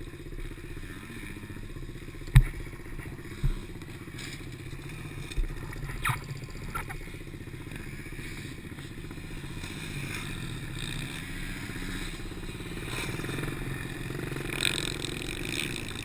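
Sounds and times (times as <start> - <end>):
pit bike engine running: 0.0 - 16.0.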